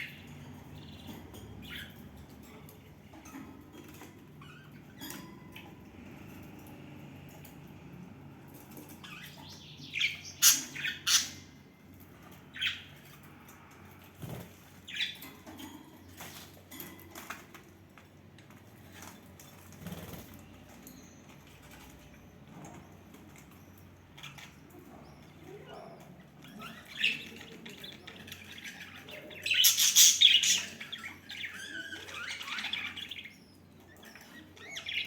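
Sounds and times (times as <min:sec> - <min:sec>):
budgerigars chirping and squawking: 0:00.0 - 0:07.4, 0:08.5 - 0:17.4, 0:21.4 - 0:35.0.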